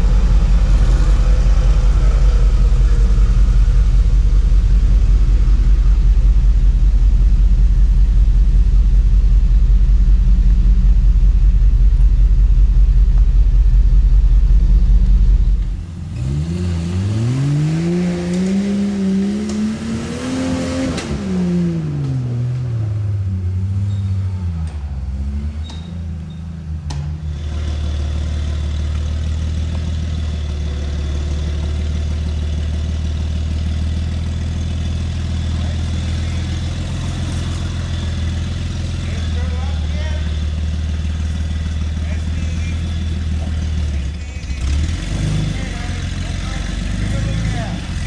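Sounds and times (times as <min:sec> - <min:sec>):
jeep engine revving: 0:00.0 - 0:48.0
low engine drone: 0:00.0 - 0:48.0.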